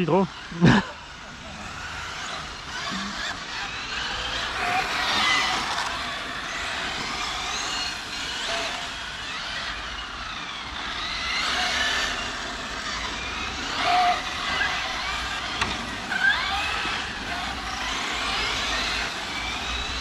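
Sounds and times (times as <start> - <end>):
electric rc car motor whines: 0.0 - 20.0.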